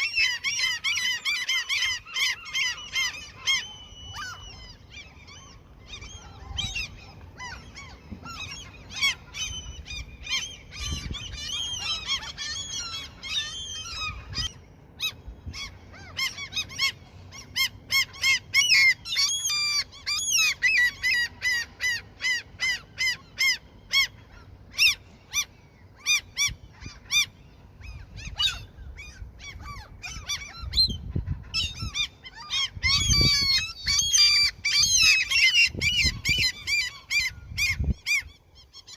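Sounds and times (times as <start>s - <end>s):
gulls calling: 0.0s - 38.9s.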